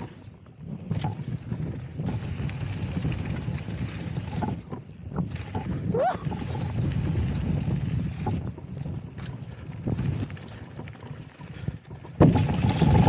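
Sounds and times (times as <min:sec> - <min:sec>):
bike knocks and rattles: 0:00.0 - 0:13.0
tyres rumbling on gravel: 0:00.0 - 0:13.0
wind buffeting microphone: 0:00.0 - 0:13.0.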